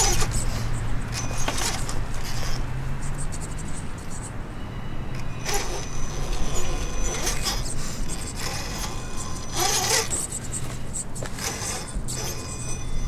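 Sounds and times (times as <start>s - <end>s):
high motor and gear whine: 0.0s - 13.0s
tires scraping on stone: 0.0s - 13.0s.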